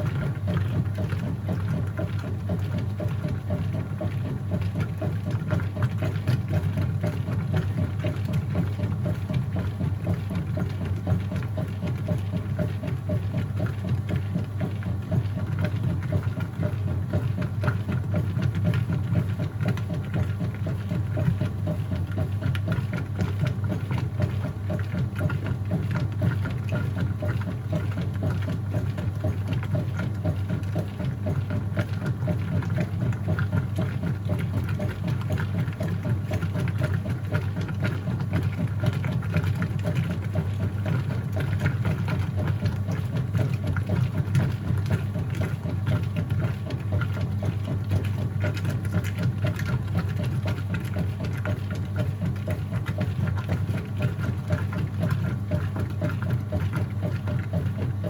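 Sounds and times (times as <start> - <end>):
washing machine churning rattle: 0.0 - 58.0
washing machine motor hum: 0.0 - 58.0.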